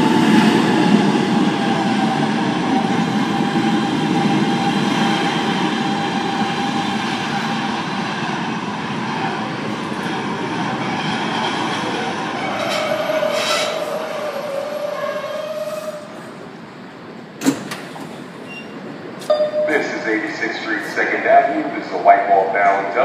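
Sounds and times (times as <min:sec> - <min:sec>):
subway train wheels rumbling: 0:00.0 - 0:23.0.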